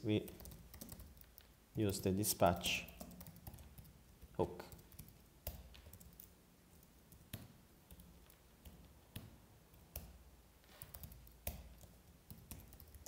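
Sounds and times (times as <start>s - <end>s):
computer keyboard keystrokes: 0.3s - 1.9s, 2.6s - 13.0s.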